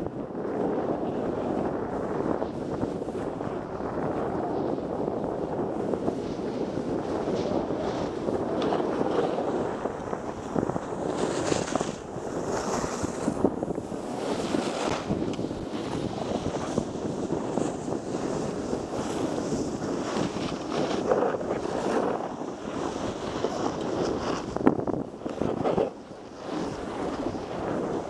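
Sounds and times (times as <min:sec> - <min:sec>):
wind buffeting microphone: 0:00.0 - 0:28.0
skis scraping on snow: 0:00.4 - 0:28.0.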